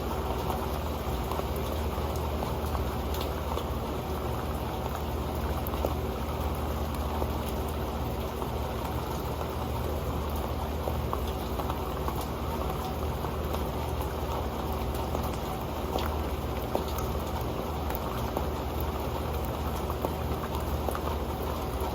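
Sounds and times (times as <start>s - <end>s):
rain on a pan: 0.0s - 21.9s.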